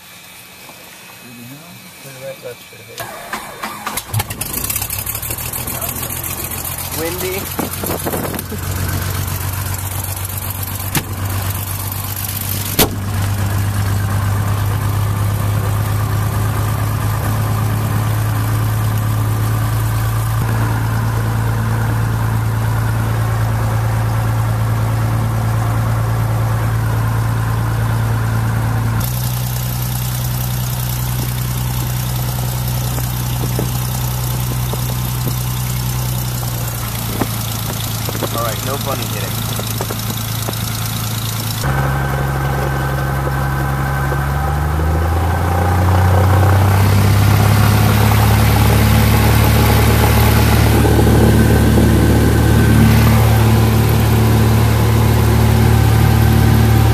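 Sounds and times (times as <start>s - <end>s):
propeller plane engine humming: 0.0s - 56.9s.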